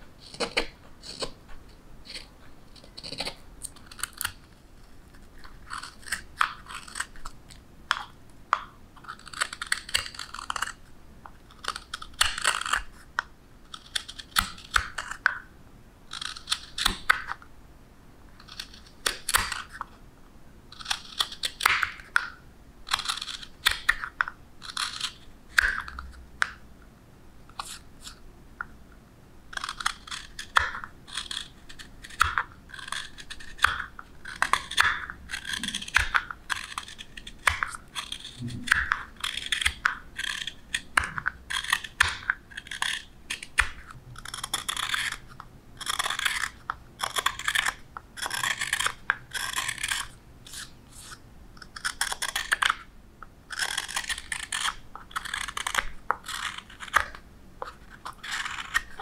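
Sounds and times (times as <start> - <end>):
knife carving wood: 0.2 - 1.4, 2.0 - 15.4, 16.1 - 17.4, 18.4 - 20.0, 20.7 - 26.6, 27.5 - 28.2, 29.5 - 52.9, 53.5 - 59.0.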